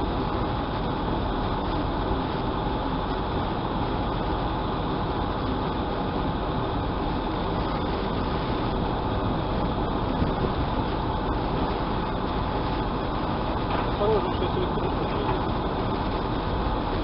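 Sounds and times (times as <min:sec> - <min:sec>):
motor car engine running: 0:00.0 - 0:17.0.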